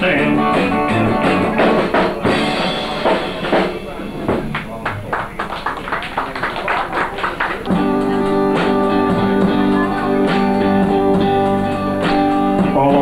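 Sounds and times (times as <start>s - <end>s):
electric guitar: 0.0s - 5.1s, 7.6s - 13.0s
rock band playing: 0.0s - 5.8s, 7.2s - 13.0s.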